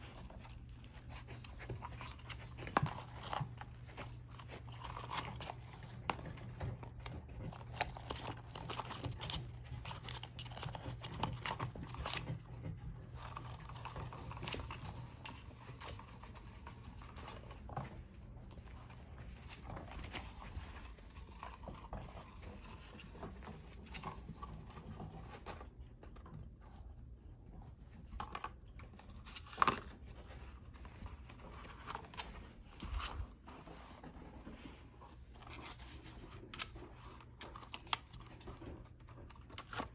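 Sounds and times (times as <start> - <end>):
puppy chewing cardboard tube: 0.0 - 39.9.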